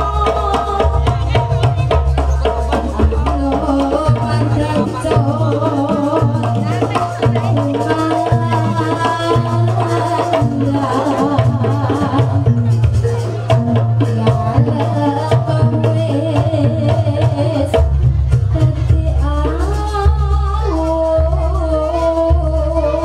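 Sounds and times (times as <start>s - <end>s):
hand drums playing busy rhythm: 0.0s - 23.0s.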